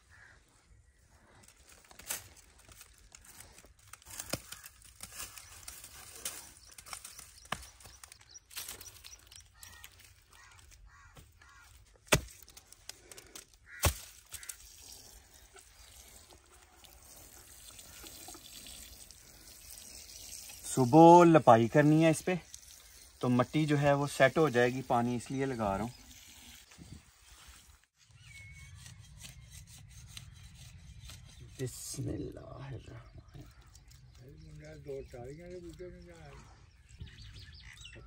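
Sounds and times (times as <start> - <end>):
straw and mud rustling: 0.0 - 37.8.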